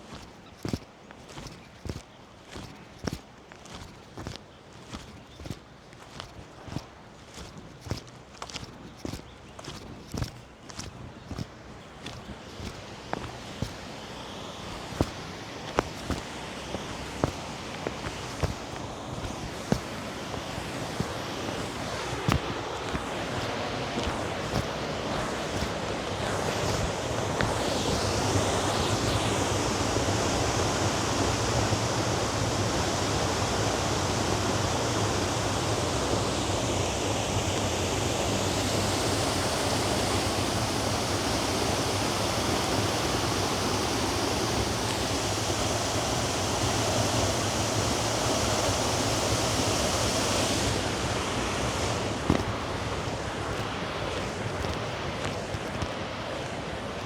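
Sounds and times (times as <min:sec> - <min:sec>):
steady rushing noise: 0:00.0 - 0:57.0.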